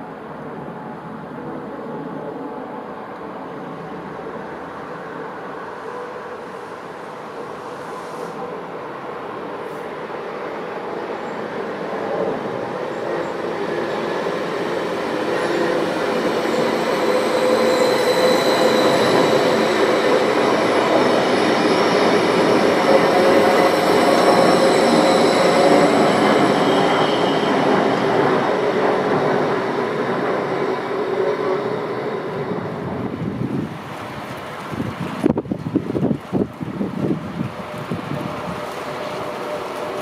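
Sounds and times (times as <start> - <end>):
train wheel and rail noise: 0.0 - 40.0.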